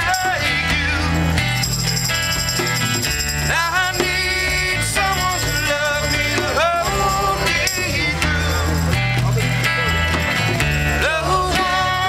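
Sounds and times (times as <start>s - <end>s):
band playing: 0.0s - 12.0s
steady bass line: 0.0s - 12.0s.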